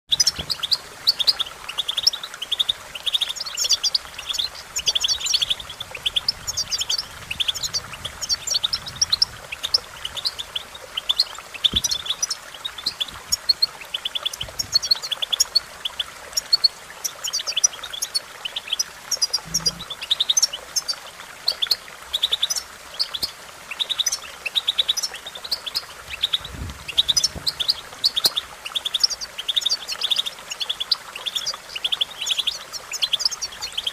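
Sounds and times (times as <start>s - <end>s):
goldfinch singing: 0.1s - 33.9s.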